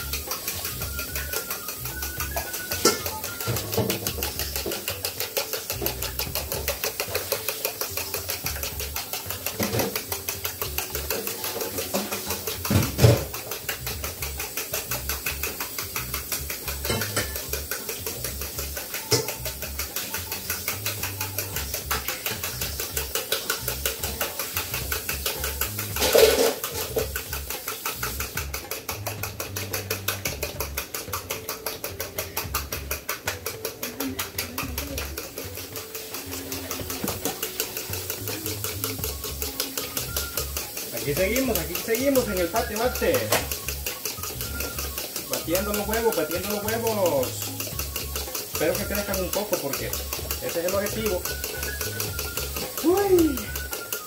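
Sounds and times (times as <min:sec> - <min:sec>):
fork beating eggs in bowl: 0:00.0 - 0:54.0.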